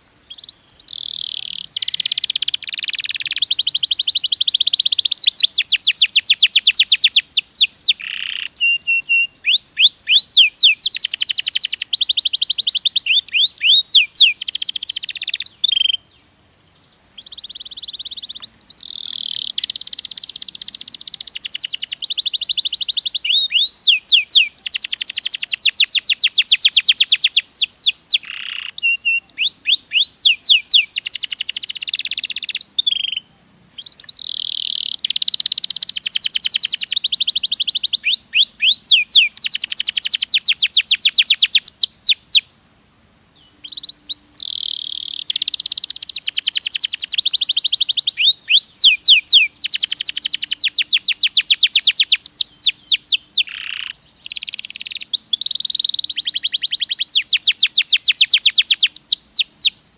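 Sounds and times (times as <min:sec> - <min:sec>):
canary singing trills: 0:00.0 - 0:42.5, 0:43.3 - 0:59.8.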